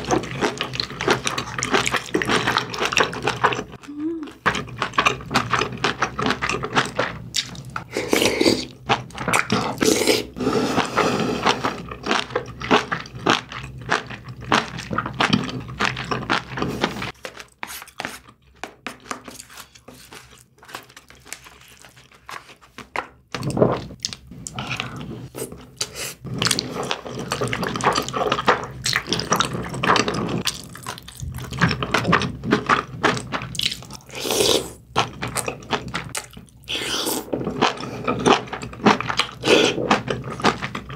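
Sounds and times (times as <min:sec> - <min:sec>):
wet chewing and slurping: 0:00.0 - 0:40.9.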